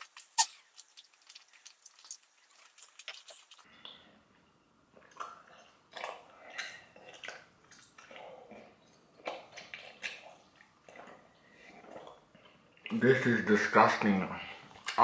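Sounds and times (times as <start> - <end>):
person chewing gum: 0.0 - 4.1, 4.9 - 13.0.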